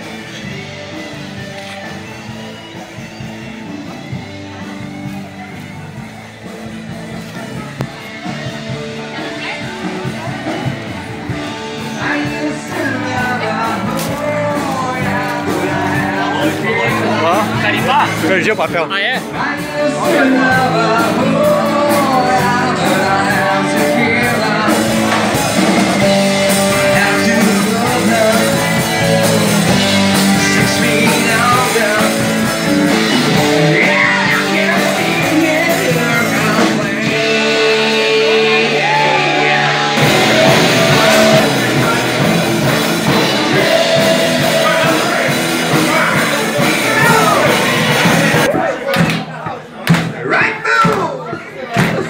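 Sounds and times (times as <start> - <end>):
rock music with singer: 0.0 - 52.0.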